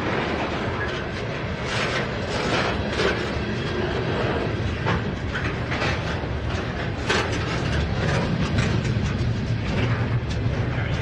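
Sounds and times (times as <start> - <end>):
freight cars clanking and rattling: 0.0 - 11.0
train wheels rumbling on rail: 0.0 - 11.0.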